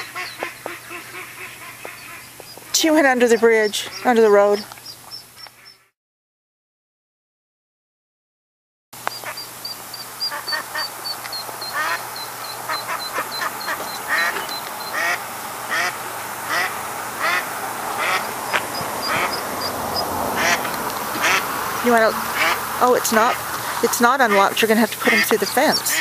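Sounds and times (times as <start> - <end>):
duck quacking: 0.0 - 4.4, 9.1 - 26.0.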